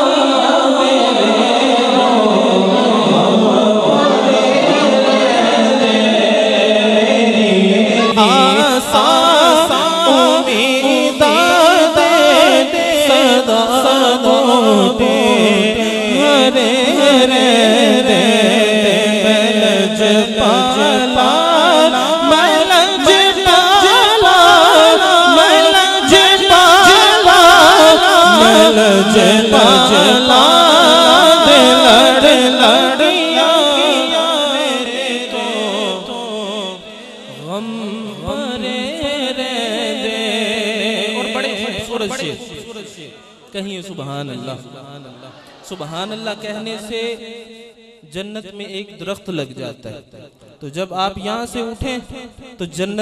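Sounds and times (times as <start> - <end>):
man singing into a microphone: 0.0 - 53.0.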